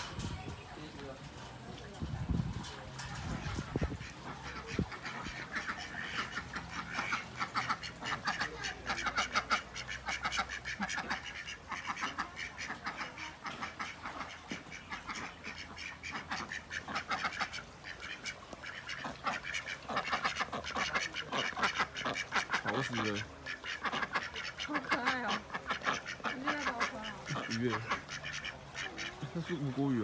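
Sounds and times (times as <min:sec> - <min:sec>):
ducks quacking: 0:00.0 - 0:30.0.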